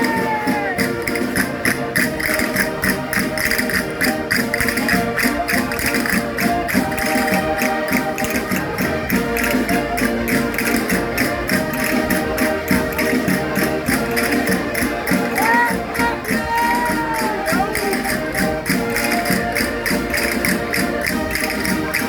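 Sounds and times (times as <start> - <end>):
concertinas playing folk dance tune: 0.0 - 22.0
fast percussive beat: 0.0 - 22.0.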